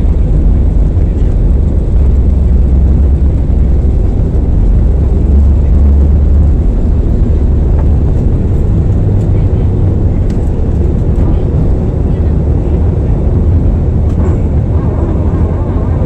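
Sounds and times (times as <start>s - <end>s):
jet engine rumble in cabin: 0.0s - 16.0s.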